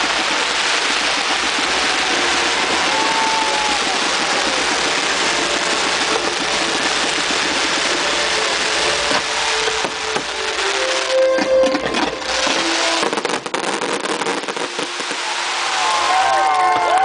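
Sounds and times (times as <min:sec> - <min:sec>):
firework bangs: 0:00.0 - 0:17.0
firework whistle: 0:00.0 - 0:17.0
fireworks crackling and hissing: 0:00.0 - 0:17.0.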